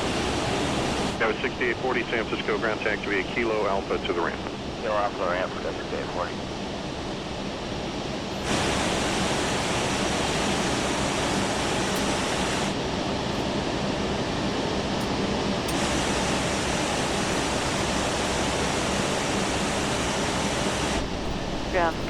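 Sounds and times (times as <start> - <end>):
steady rushing noise in cockpit: 0.0 - 22.0.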